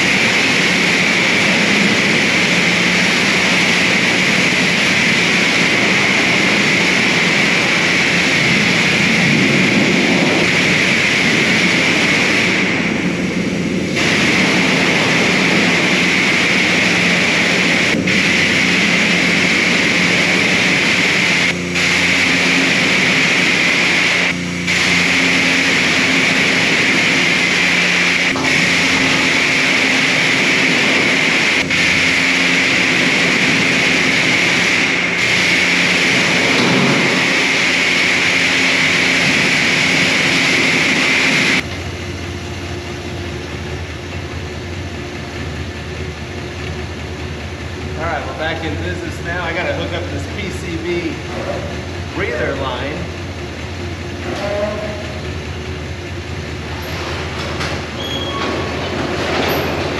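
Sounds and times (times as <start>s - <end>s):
low pump hum: 0.0s - 59.9s
pressure washer spraying water: 0.0s - 59.9s.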